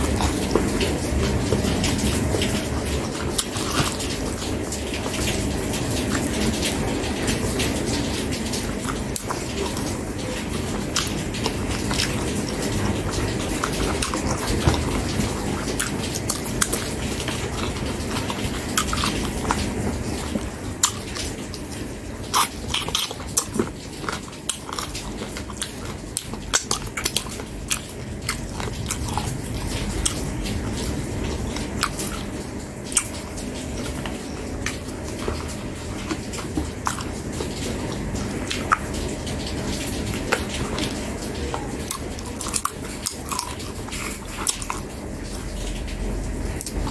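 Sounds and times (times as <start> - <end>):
person chewing food: 0.0 - 45.6.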